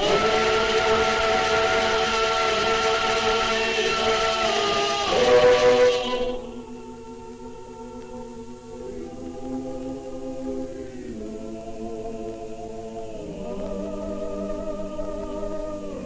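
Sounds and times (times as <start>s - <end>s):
folk ensemble singing unaccompanied: 0.0s - 16.0s.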